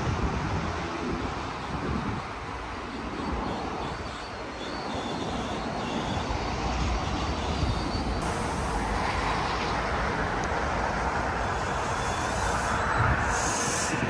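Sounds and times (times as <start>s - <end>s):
electric train arriving: 0.8s - 14.0s.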